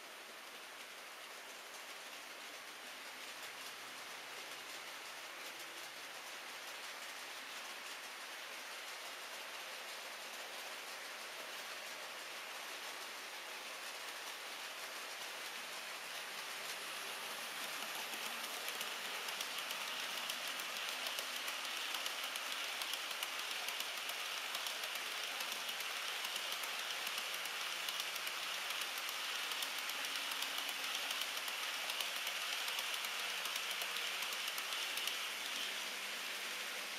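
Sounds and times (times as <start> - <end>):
model train wheels clicking on track: 0.0 - 36.9.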